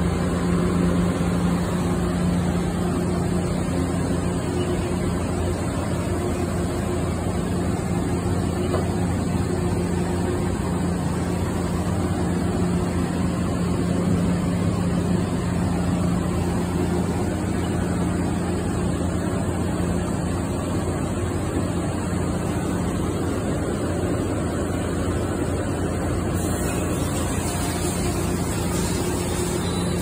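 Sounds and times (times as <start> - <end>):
milling machine hum: 0.0 - 30.0.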